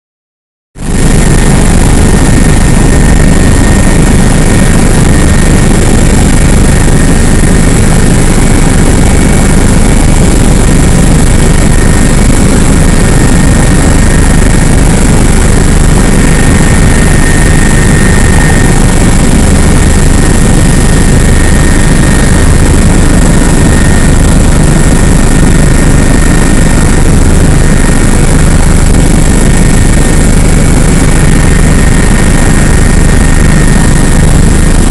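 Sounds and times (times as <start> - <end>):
helicopter engine and rotor drone: 0.8 - 34.9.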